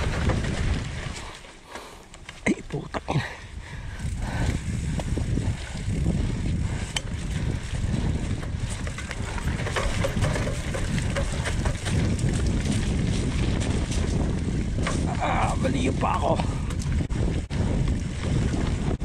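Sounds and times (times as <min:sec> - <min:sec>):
bike clicks and rattles: 0:00.0 - 0:19.0
bike tyres rolling over dirt: 0:00.0 - 0:19.0.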